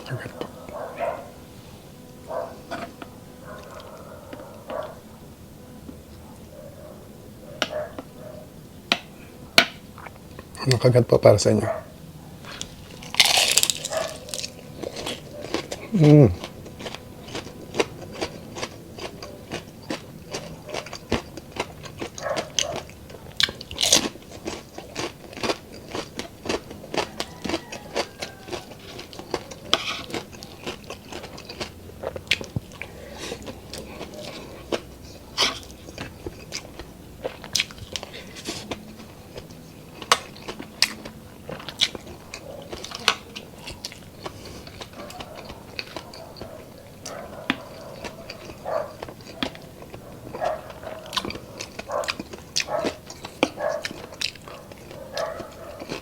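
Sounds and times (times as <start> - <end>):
crunchy food being chewed: 0.0 - 56.0.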